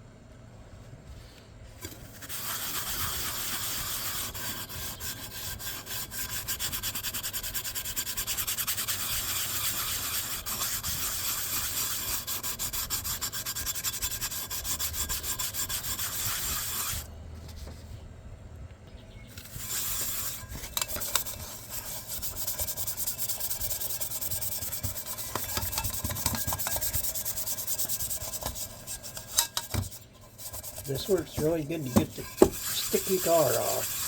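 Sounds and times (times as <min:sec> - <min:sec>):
sponge scrubbing a metal pot: 0:01.9 - 0:17.1, 0:19.4 - 0:34.0.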